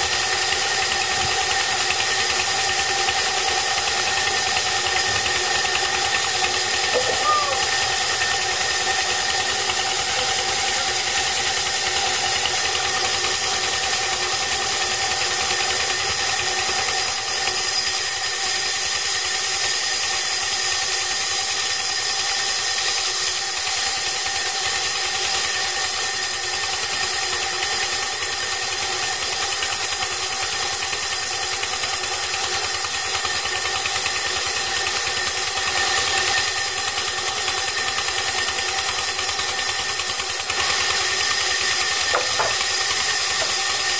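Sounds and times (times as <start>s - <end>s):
band saw cutting log: 0.0s - 43.9s.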